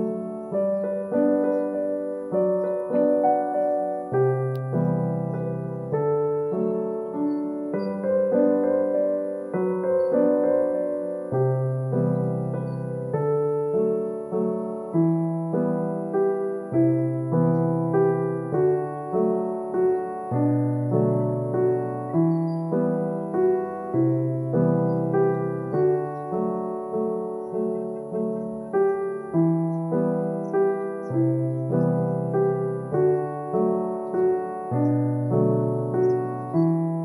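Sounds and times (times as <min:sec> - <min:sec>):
slow gentle piano piece: 0:00.0 - 0:37.0.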